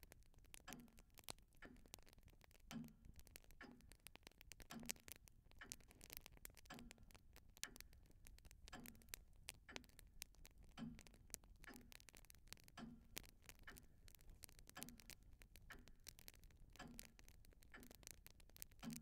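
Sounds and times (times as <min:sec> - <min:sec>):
faint regular ticking: 0:00.0 - 0:19.0
light irregular clicks: 0:00.0 - 0:19.0.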